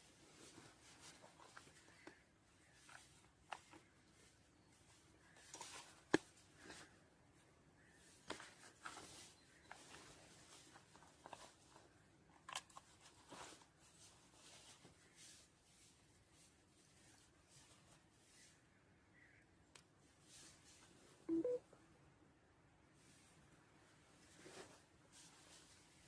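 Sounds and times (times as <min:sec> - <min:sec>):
faint clicks and rustles: 0:00.0 - 0:21.3, 0:22.8 - 0:26.0.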